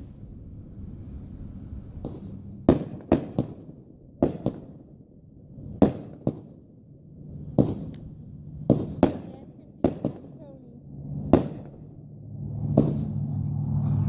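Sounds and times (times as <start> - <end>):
firework hiss: 0.0 - 14.0
firework bangs: 1.8 - 13.3.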